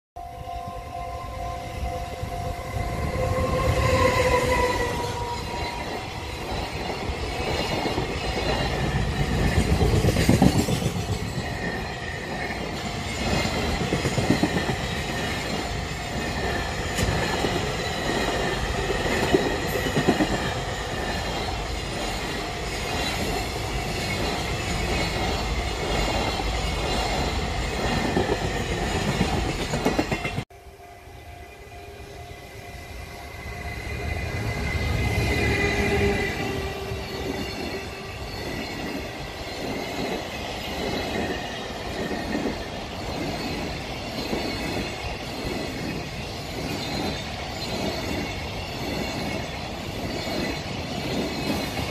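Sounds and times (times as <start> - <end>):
distant approaching freight train: 0.2 - 51.9
electric locomotive tones: 0.2 - 51.9.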